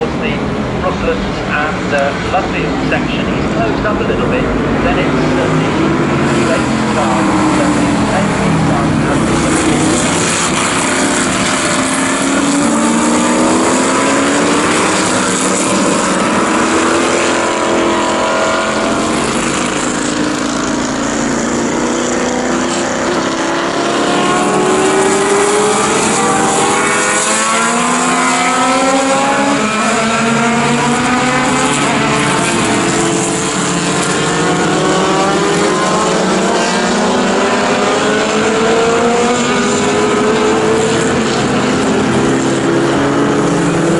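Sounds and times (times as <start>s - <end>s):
racing car engines accelerating: 0.0s - 43.9s.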